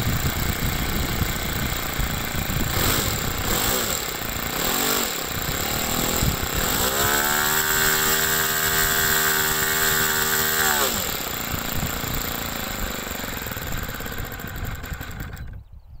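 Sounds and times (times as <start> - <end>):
wind rumbling on microphone: 0.0 - 10.2, 11.1 - 16.0
model airplane engine revving: 0.0 - 15.7.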